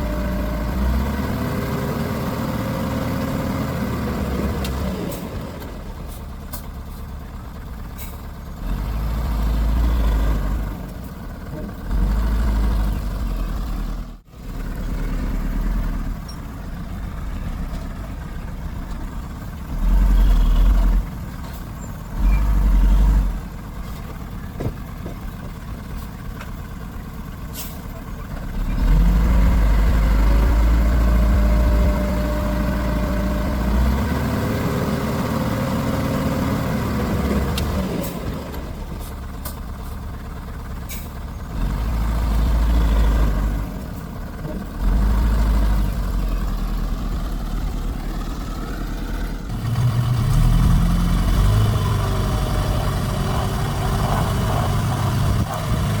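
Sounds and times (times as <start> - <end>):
heavy diesel machinery rumble: 0.0 - 56.0.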